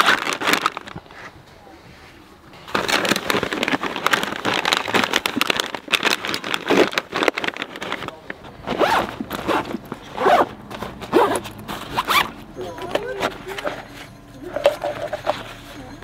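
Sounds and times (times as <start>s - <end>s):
plastic packets crinkling: 0.0s - 1.3s, 2.6s - 16.0s
nylon fabric rustling: 2.1s - 15.8s.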